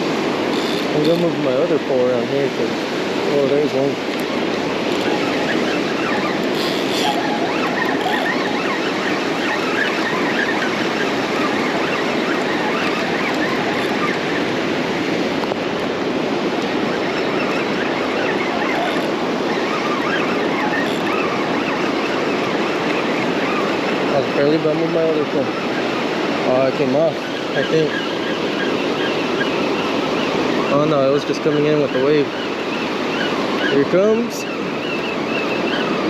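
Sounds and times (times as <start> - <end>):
ocean surf breaking: 0.0 - 36.0.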